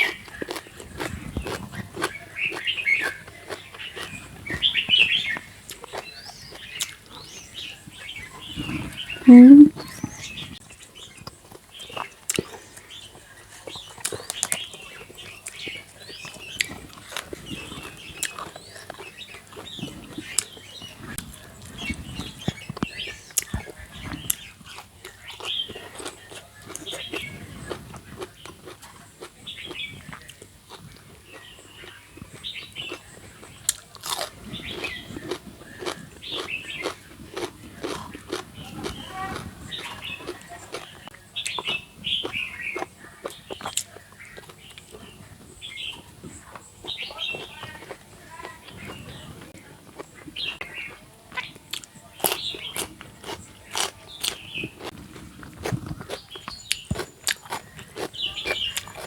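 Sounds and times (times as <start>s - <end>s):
chewing with mouth clicks: 0.0s - 10.4s, 11.0s - 59.0s
birds chirping: 0.0s - 59.0s.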